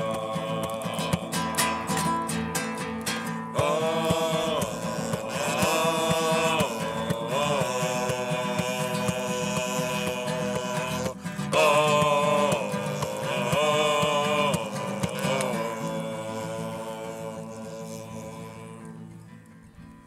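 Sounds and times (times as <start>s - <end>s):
men singing together: 0.0s - 19.2s
strummed acoustic guitar: 0.0s - 20.0s.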